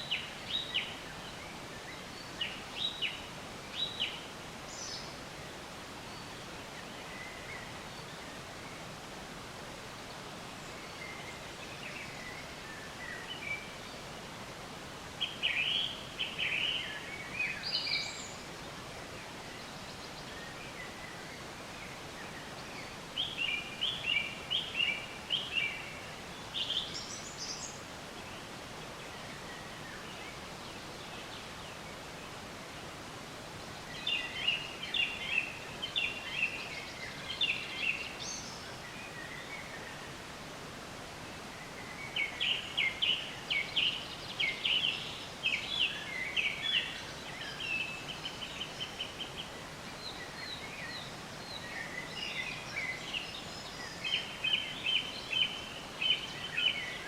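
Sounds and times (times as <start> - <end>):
songbird chirping: 0.0 - 57.0
steady background hiss: 0.0 - 57.0.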